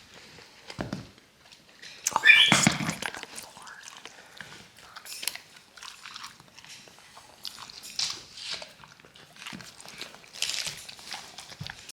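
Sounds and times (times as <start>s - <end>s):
dog crunching and lip-smacking: 1.4s - 11.9s.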